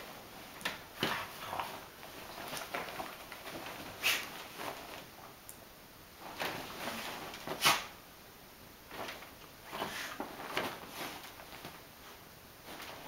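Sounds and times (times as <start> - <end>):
bedding rustling: 0.0 - 13.0.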